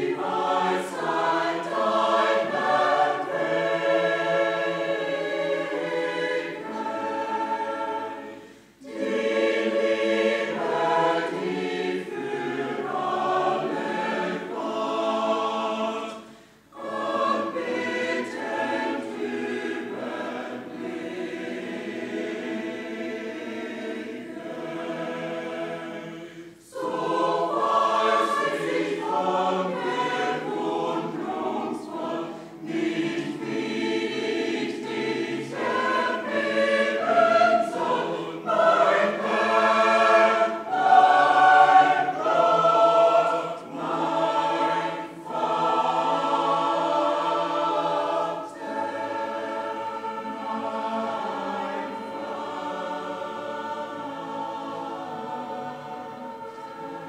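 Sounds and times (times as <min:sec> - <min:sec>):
mixed choir singing a hymn: 0:00.0 - 0:57.0.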